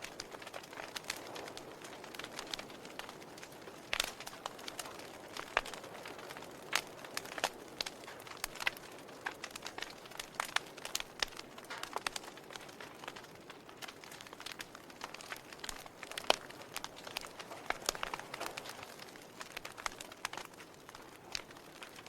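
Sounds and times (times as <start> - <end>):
log fire crackling: 0.0 - 22.0
soft steady hiss: 0.0 - 22.0.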